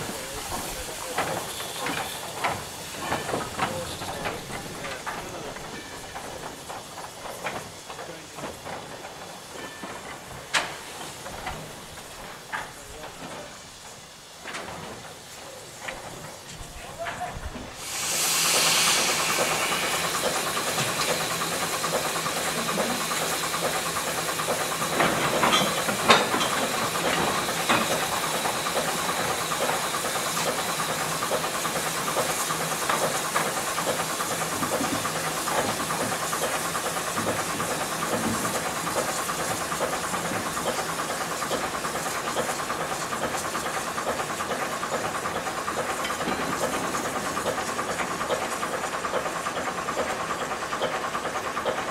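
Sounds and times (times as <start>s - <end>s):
steam hissing from locomotive: 0.0s - 51.9s
train clatter: 0.0s - 51.9s.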